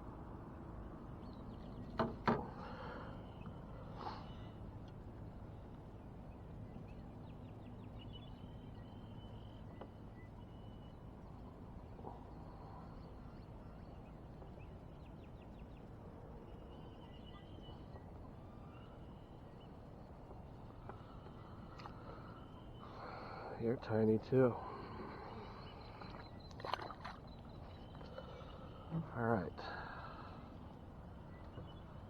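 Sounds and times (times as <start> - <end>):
faint birdsong trills and chirps: 0.0 - 32.0
low steady background noise: 0.0 - 32.0.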